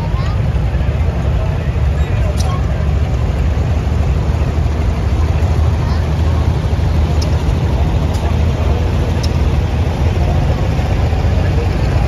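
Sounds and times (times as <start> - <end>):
tractor engines rumbling: 0.0 - 12.0.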